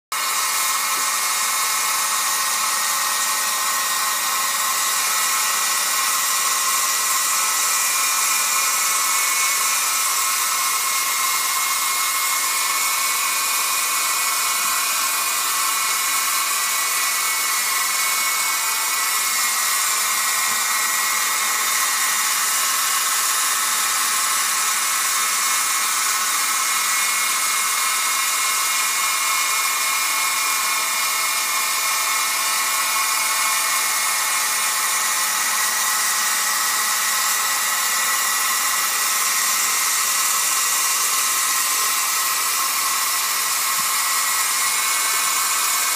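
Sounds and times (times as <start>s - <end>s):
toy helicopter motors whirring: 0.2s - 45.9s.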